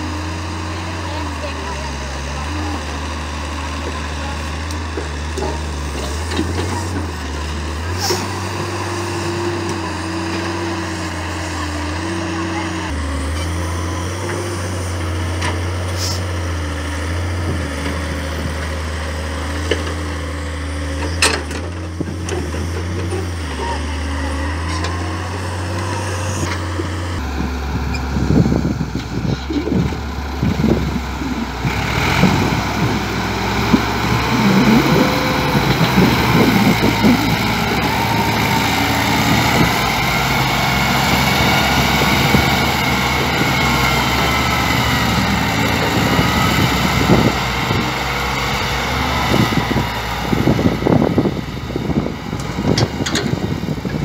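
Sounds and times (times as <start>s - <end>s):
diesel engines running: 0.0s - 54.0s
tractor engine working hard: 0.0s - 54.0s.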